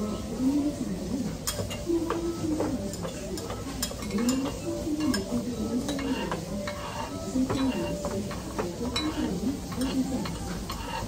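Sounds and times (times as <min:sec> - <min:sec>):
utensils clinking in metal pot: 0:01.2 - 0:11.0.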